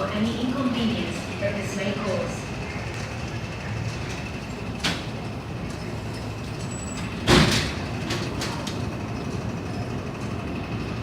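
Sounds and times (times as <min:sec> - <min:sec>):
metro train rolling: 0:00.0 - 0:11.0.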